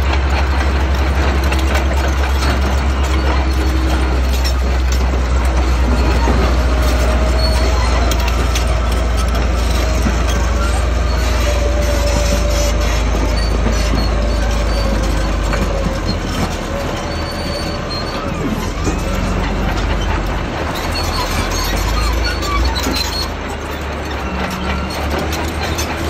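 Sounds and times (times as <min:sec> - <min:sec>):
diesel engine deep rumble: 0:00.0 - 0:26.0
steel tracks clanking and squealing: 0:00.0 - 0:26.0.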